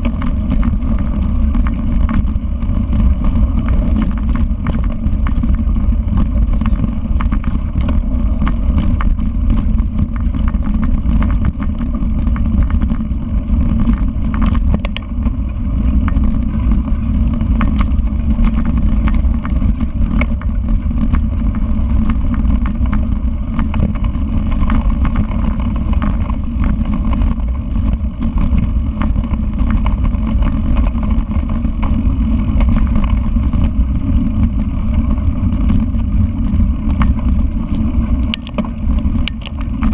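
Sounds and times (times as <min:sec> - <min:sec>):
bike clicks and rattles: 0:00.0 - 0:39.9
tyres rolling on dirt: 0:00.0 - 0:39.9
wind on microphone: 0:00.0 - 0:39.9.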